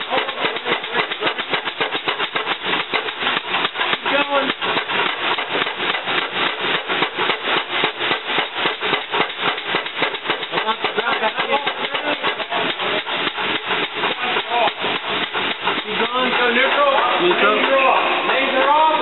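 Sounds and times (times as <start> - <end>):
hydraulic jack pumping: 0.0 - 19.0.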